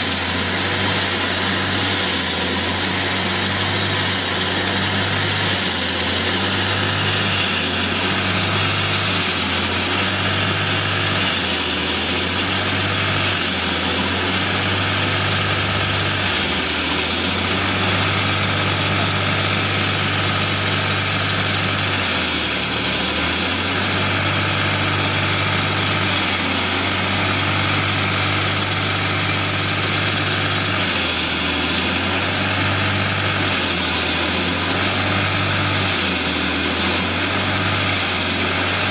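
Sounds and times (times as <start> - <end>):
diesel floor saw engine running: 0.0 - 38.9.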